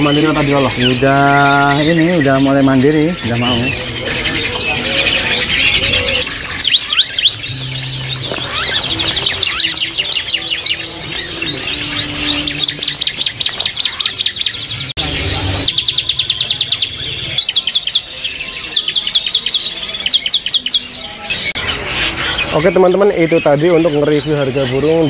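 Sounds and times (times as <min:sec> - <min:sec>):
other birds calling: 0:00.0 - 0:25.0
young songbirds chirping: 0:00.0 - 0:25.0.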